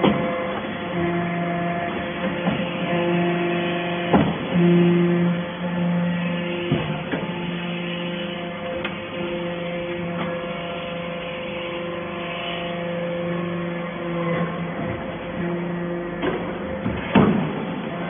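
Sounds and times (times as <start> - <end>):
baler machine hum: 0.0 - 18.0
deep pulsing machine tone: 0.0 - 18.0.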